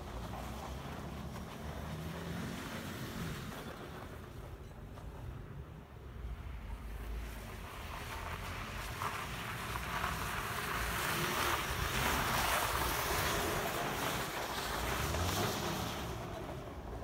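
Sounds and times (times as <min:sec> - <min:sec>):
car engine passing: 0:00.0 - 0:04.2, 0:06.8 - 0:17.0.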